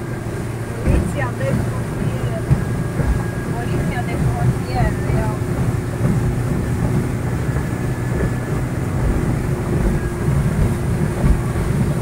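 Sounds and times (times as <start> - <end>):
motorboat engine rumbling: 0.0 - 12.0.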